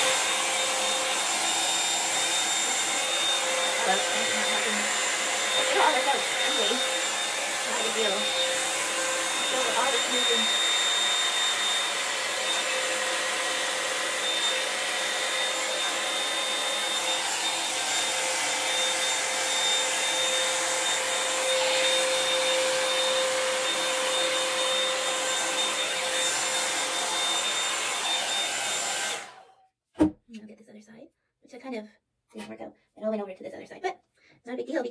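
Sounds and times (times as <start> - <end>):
hair dryer blowing air: 0.0 - 29.5.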